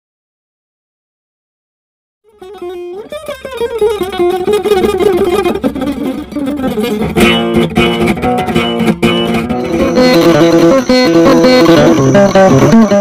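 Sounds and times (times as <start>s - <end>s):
fast acoustic guitar playing: 2.2s - 13.0s.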